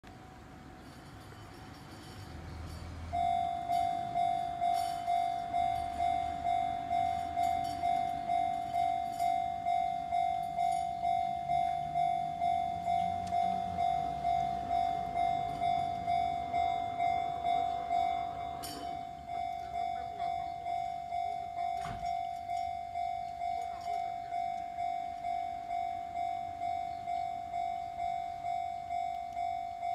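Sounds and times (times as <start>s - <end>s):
level crossing warning bell: 0.0s - 29.9s.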